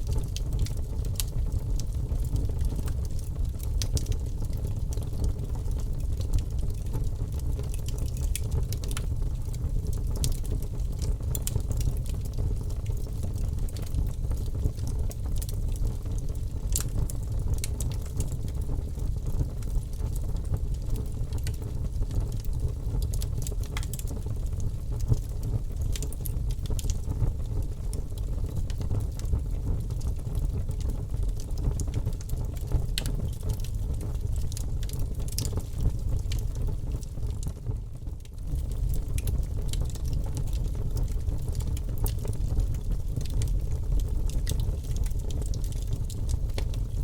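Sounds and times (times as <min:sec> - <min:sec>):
burning wood crackling and popping: 0:00.0 - 0:47.0.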